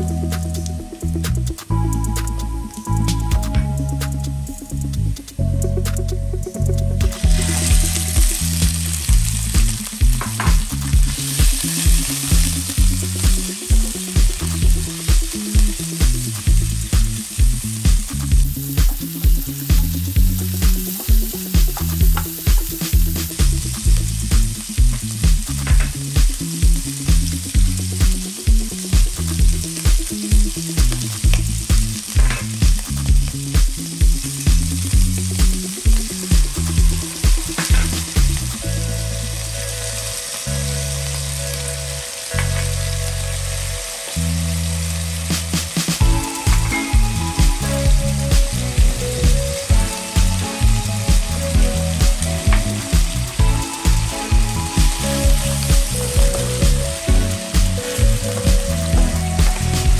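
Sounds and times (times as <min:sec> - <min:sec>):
background music with steady beat: 0:00.0 - 0:59.9
meat sizzling in hot oil: 0:07.0 - 0:59.9.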